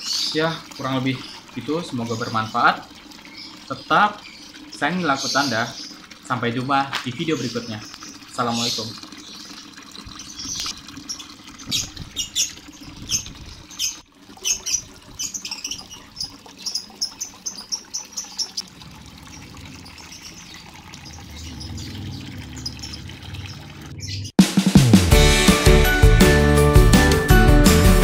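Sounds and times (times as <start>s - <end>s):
lovebirds chirping: 0.0s - 24.4s.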